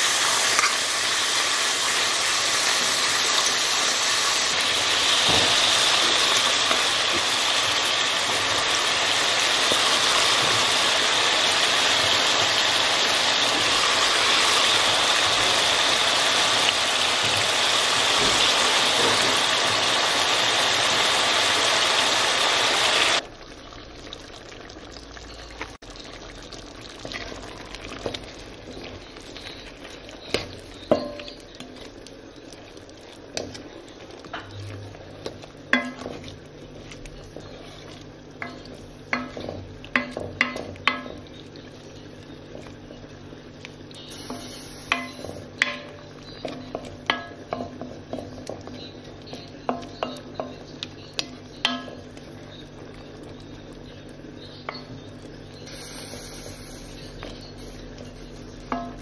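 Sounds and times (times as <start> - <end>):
sausages sizzling in hot fat: 0.0 - 59.0.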